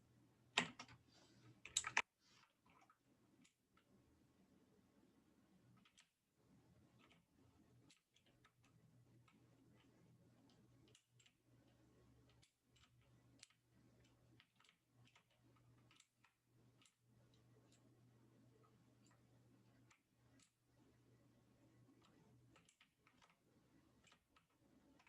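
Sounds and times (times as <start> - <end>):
low steady hum: 0.0 - 25.0
faint irregular clicks: 0.5 - 4.2, 5.5 - 25.0.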